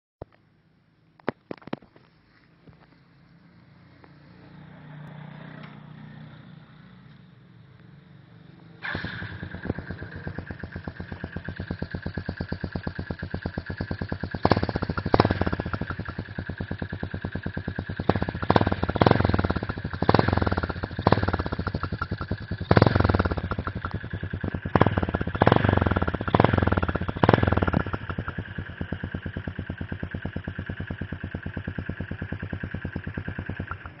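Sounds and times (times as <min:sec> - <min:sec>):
motorcycle engine idling and revving: 0:00.4 - 0:34.0.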